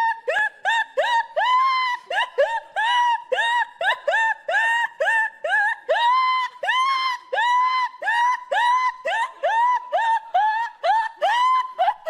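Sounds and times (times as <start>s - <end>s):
high-pitched laughter: 0.0s - 12.0s.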